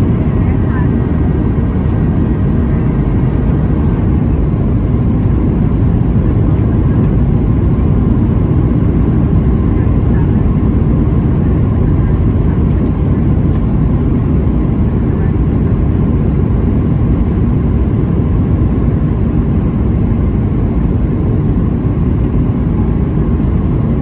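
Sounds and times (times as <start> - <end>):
jet engine roar in cabin: 0.0 - 24.0.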